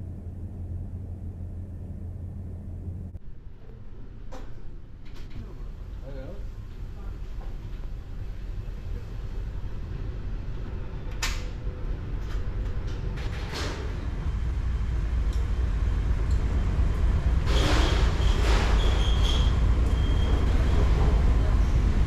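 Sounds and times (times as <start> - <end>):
engine room machinery rumble: 0.0 - 22.0.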